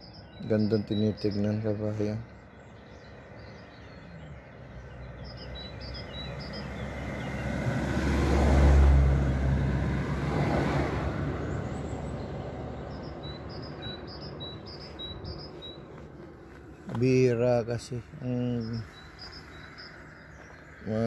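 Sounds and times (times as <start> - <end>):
motor vehicle passing by: 2.8 - 21.0.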